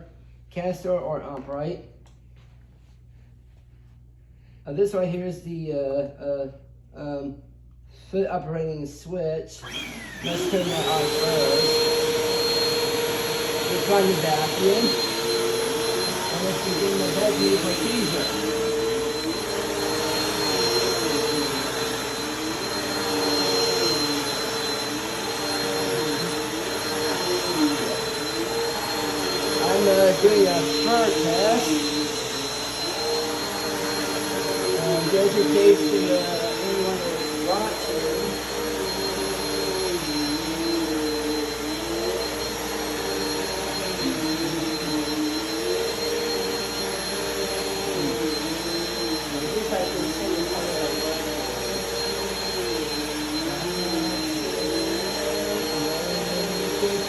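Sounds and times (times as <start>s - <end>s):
vacuum cleaner running on carpet: 9.6s - 57.0s.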